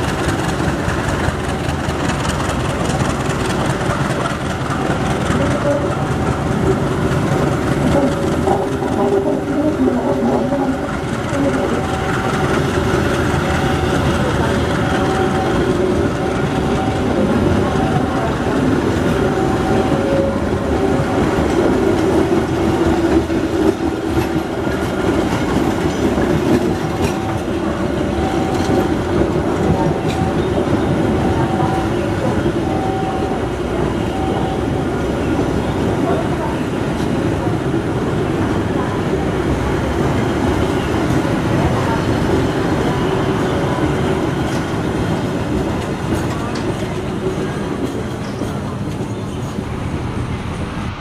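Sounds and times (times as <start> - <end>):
train wheels clattering on rails: 0.0 - 51.0.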